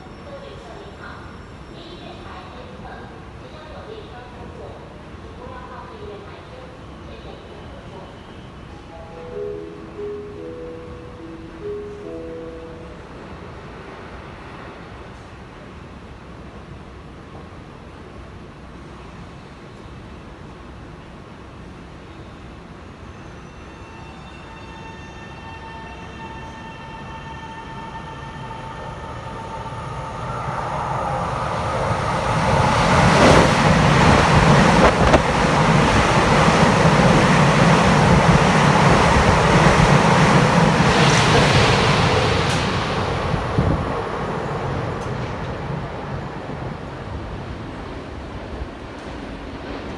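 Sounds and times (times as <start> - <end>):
express train passing: 0.0 - 49.9.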